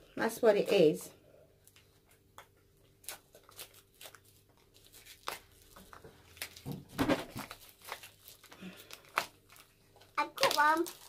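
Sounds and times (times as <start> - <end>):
packet crinkling and tearing: 1.6 - 11.0.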